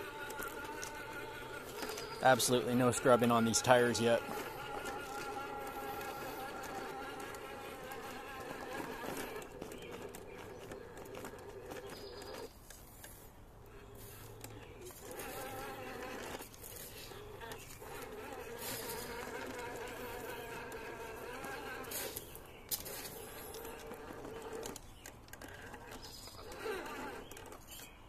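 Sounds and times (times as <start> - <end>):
electric motor and gear whine: 0.0 - 12.8, 13.7 - 28.0.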